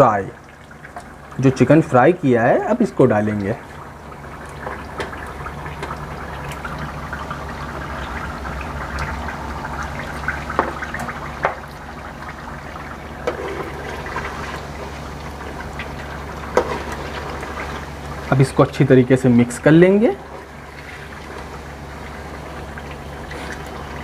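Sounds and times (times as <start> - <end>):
oil and masala sizzling: 0.0 - 24.0.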